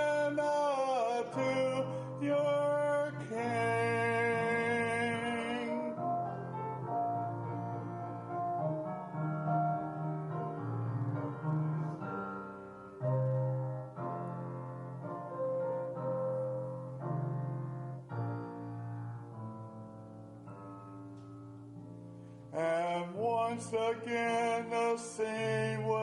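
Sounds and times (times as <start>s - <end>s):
piano sustained chords: 0.0s - 26.0s.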